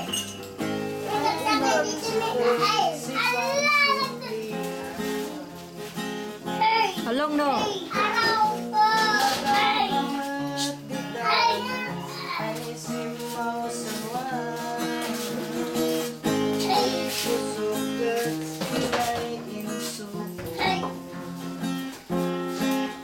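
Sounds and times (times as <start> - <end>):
acoustic guitar strumming: 0.0 - 23.0
person singing: 1.0 - 6.0, 7.0 - 21.7.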